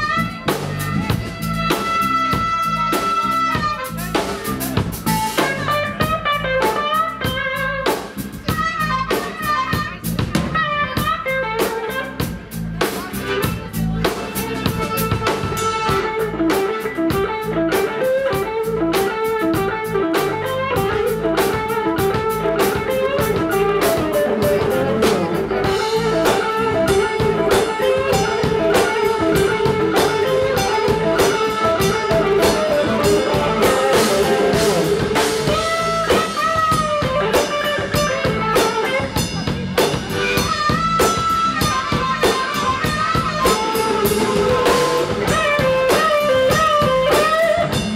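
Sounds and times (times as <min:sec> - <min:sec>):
drum kit: 0:00.0 - 0:47.9
electric guitar: 0:00.0 - 0:47.9.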